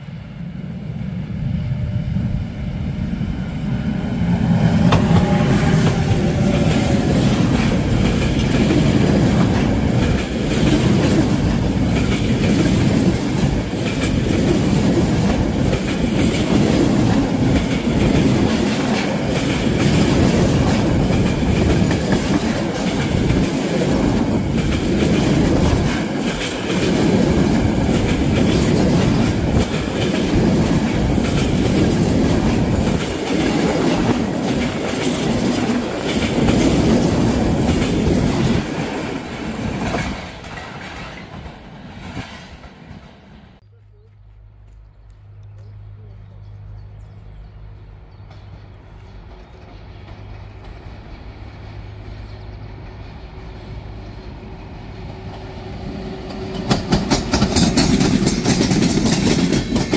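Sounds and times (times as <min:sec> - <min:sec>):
train wheels clattering on rails: 0:04.2 - 0:43.6, 0:48.1 - 0:59.9.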